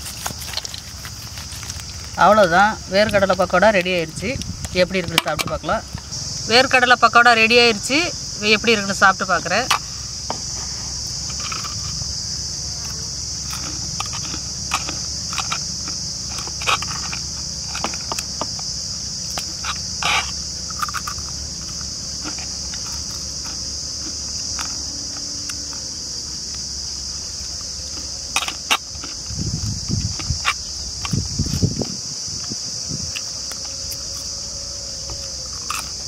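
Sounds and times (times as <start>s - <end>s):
crunchy chewing: 0.0s - 6.5s, 7.6s - 36.0s
crickets chirping: 0.0s - 36.0s.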